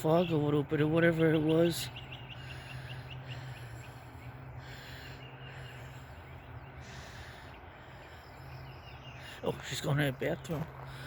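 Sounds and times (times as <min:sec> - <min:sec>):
steady low hum: 0:00.6 - 0:11.0.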